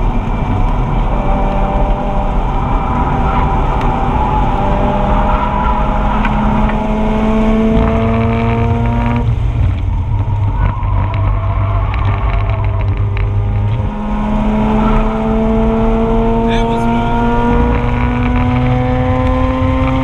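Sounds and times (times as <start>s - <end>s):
rotary engine revving: 0.0s - 20.0s.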